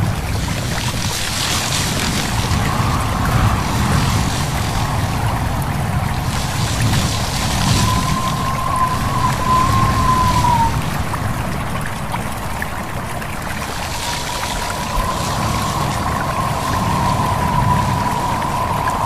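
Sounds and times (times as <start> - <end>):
stream babbling and trickling: 0.0 - 19.0
wind rushing: 0.0 - 19.0
high wind whistle: 1.4 - 19.0.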